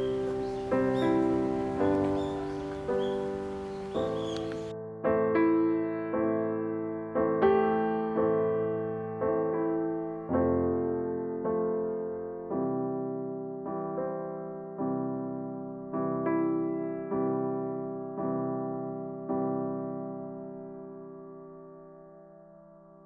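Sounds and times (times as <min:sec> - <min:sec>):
slow solo piano: 0:00.0 - 0:23.0.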